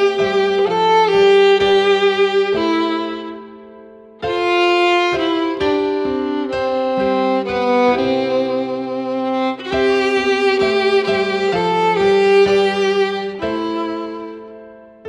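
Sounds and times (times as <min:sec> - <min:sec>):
lower string accompaniment: 0:00.0 - 0:15.0
violin slow melody: 0:00.0 - 0:15.0.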